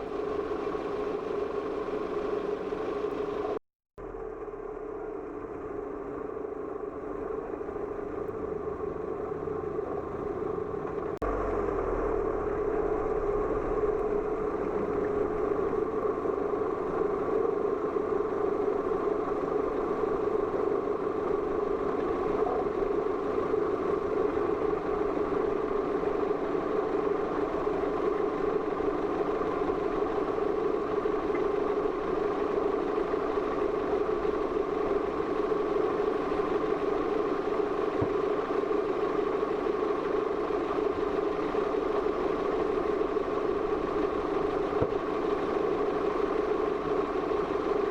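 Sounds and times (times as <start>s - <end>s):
car engine drone from cabin: 0.0s - 47.9s.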